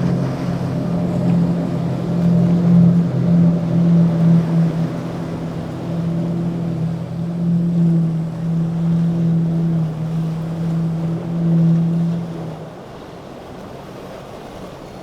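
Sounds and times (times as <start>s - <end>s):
motorboat engines droning: 0.0s - 15.0s
water wash: 0.0s - 15.0s
wind: 0.0s - 15.0s.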